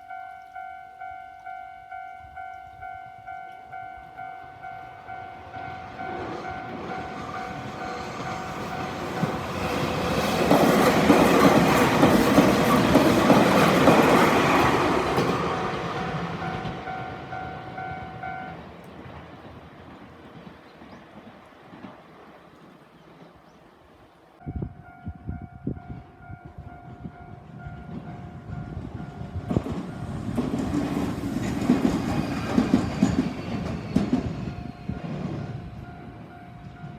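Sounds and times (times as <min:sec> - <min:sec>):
train wheels on rails: 0:01.4 - 0:23.6, 0:25.8 - 0:36.9.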